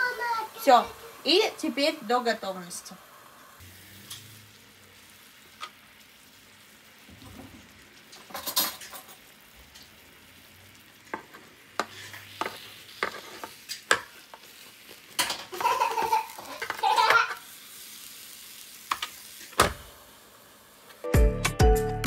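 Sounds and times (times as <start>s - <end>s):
filling sizzling on grill plates: 0.0s - 21.1s.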